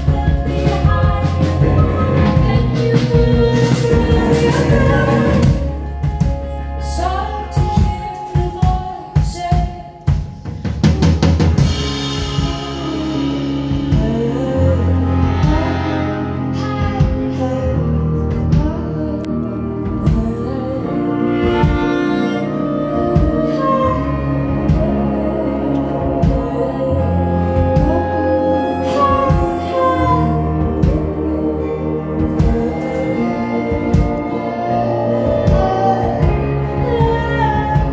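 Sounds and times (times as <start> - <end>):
live band playing: 0.0 - 37.9.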